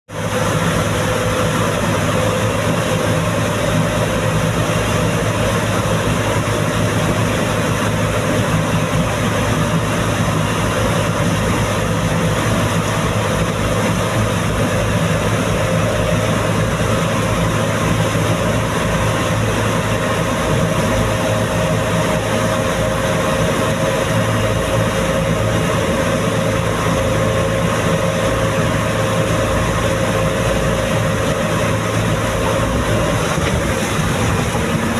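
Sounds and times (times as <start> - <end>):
diesel engine running: 0.1 - 34.9
water rushing and splashing: 0.1 - 34.9.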